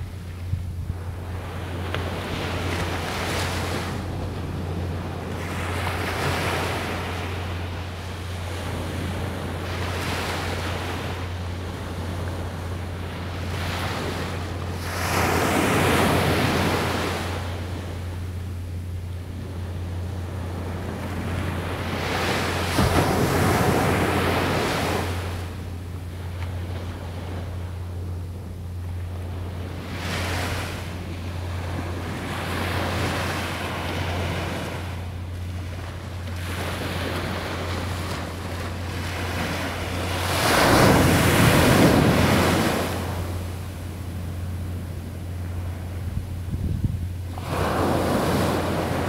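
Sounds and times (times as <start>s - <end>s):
waves breaking on a beach: 0.0s - 49.0s
wind rumble on microphone: 0.0s - 49.0s.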